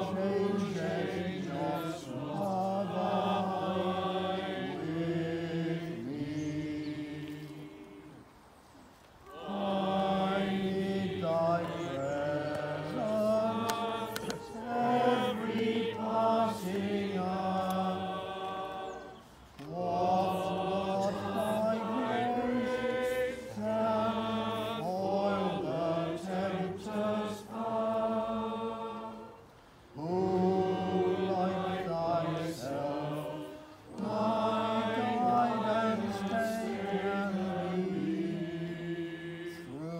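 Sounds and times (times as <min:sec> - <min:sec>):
choir singing: 0:00.0 - 0:08.3, 0:09.2 - 0:39.9.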